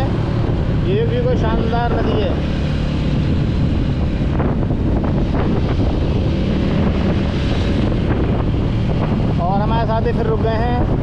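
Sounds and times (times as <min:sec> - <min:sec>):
motorcycle engine rumble: 0:00.0 - 0:11.0
wind buffeting microphone: 0:00.0 - 0:11.0.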